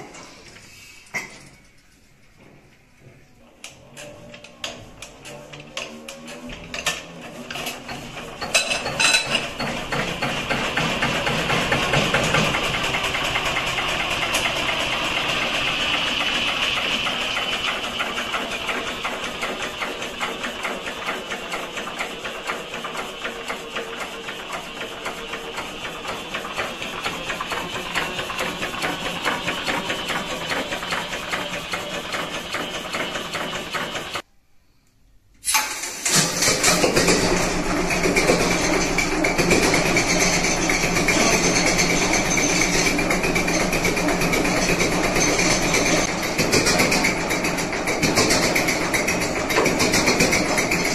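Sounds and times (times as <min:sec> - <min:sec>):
diesel engine starting and running: 0:03.8 - 0:34.2, 0:35.4 - 0:50.9.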